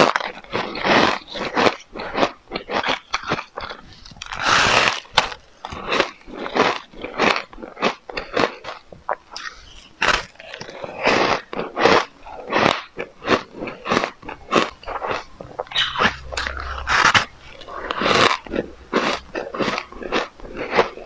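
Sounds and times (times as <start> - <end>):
crunching and chewing ice: 0.0 - 21.0.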